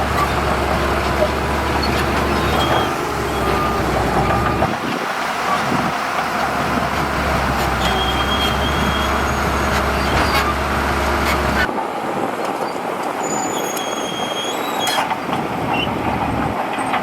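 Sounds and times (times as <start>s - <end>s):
heavy machinery diesel engines: 0.0s - 17.0s.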